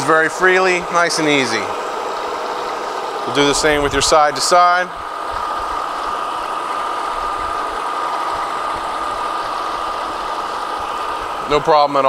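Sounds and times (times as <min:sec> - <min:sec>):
high whine: 0:00.0 - 0:12.0
milling machine humming: 0:00.0 - 0:12.0.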